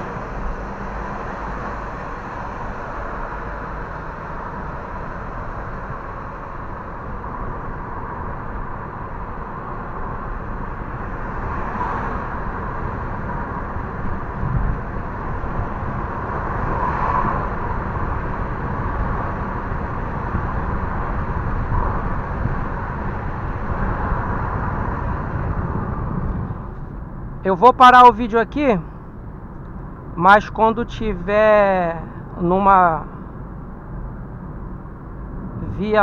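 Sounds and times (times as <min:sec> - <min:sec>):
car interior road rumble: 0:00.0 - 0:36.0.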